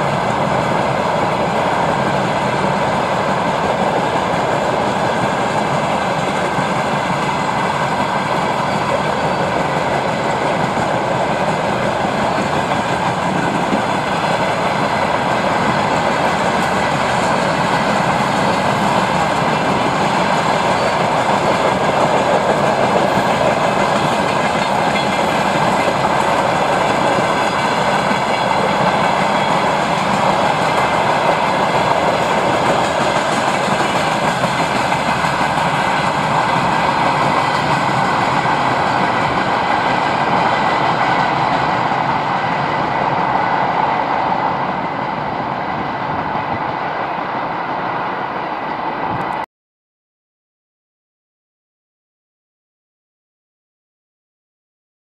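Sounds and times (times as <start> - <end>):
train wheels running on rails: 0.0 - 49.4.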